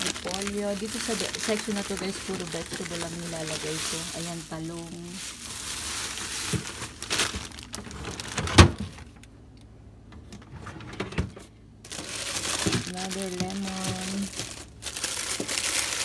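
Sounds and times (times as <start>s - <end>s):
rustling plastic bags: 0.0s - 9.2s, 11.8s - 16.0s.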